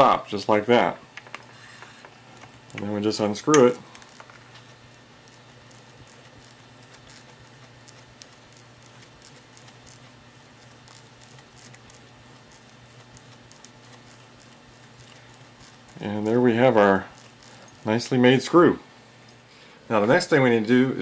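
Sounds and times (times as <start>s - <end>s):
low steady hum: 0.0s - 21.0s
threading die scratching: 1.2s - 18.4s.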